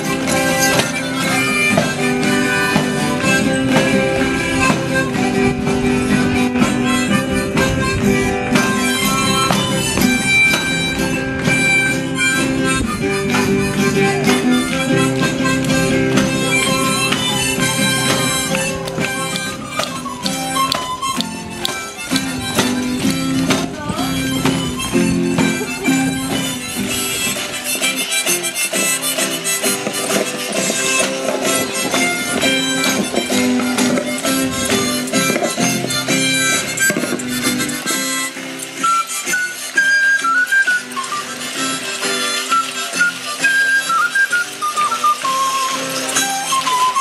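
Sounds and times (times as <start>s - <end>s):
acoustic guitar strumming: 0.0s - 47.0s
melody of long held notes: 0.0s - 47.0s.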